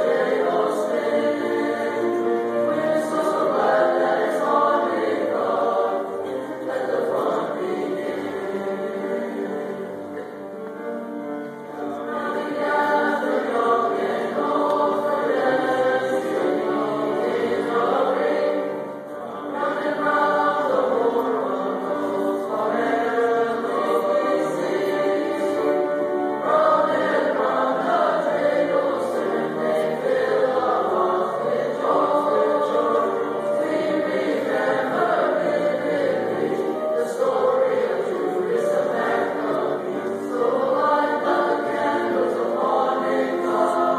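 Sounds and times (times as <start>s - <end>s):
children's choir singing: 0.0s - 43.9s.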